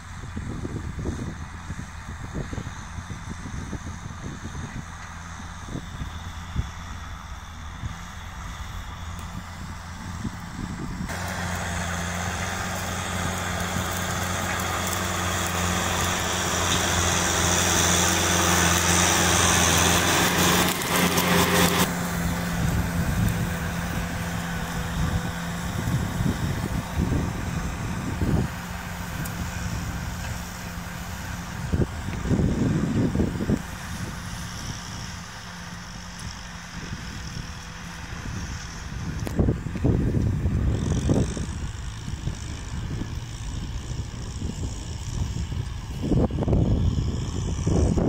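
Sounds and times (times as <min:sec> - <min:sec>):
tractor diesel engine: 0:00.0 - 0:48.0
low rumbling bursts: 0:00.1 - 0:48.0
rotary tiller churning soil: 0:00.1 - 0:48.0.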